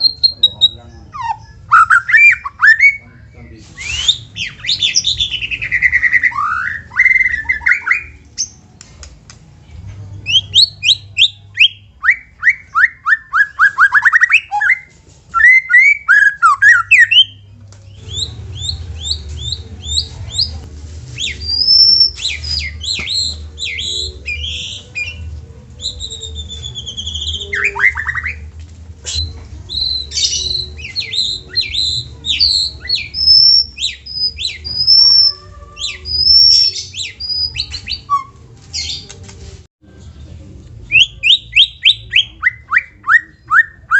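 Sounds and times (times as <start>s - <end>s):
songbird singing: 0.0s - 8.9s, 9.6s - 39.2s, 39.8s - 43.9s.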